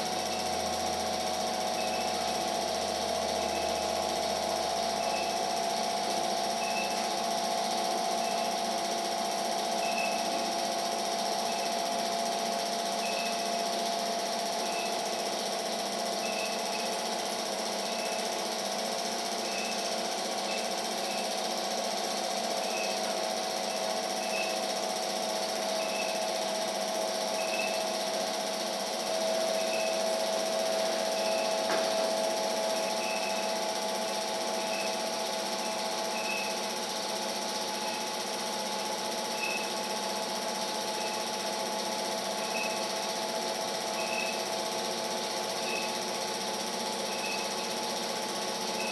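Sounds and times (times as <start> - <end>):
small motor humming: 0.0 - 48.9.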